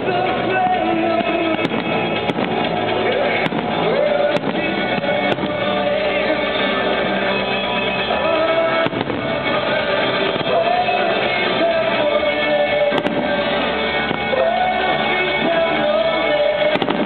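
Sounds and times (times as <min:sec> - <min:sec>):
fireworks bursting: 0:00.0 - 0:17.0
song over loudspeakers: 0:00.0 - 0:17.0.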